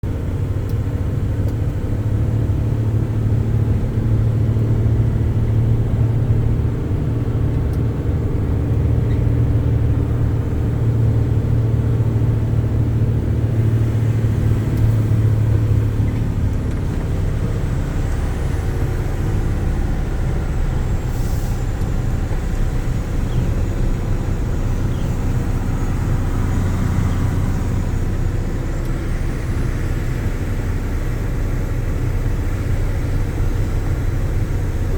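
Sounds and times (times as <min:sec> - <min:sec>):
road noise: 0:00.0 - 0:34.9
vehicle engine running: 0:00.0 - 0:34.9.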